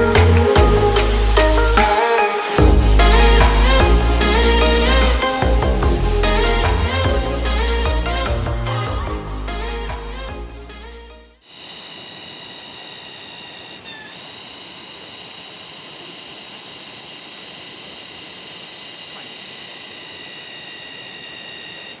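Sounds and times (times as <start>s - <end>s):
high-pitched whine: 0.0s - 22.0s.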